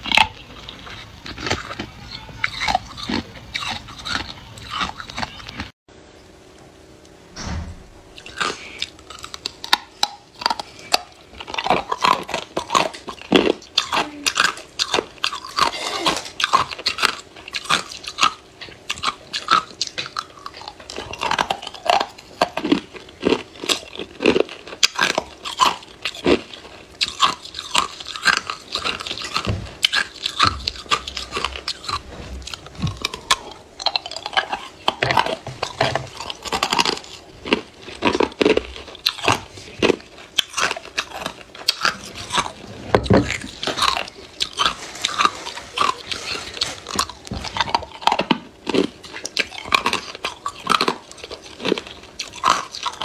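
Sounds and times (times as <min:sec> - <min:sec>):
ice crunching while chewed: 0:00.0 - 0:05.8, 0:08.2 - 0:53.0.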